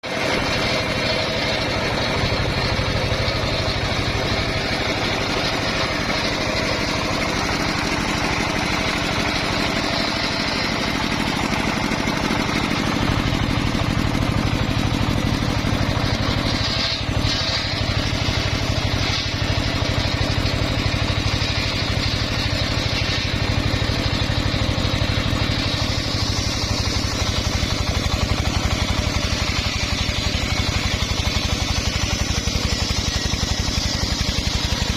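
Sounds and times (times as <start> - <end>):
circular saw engine humming: 0.0 - 34.9.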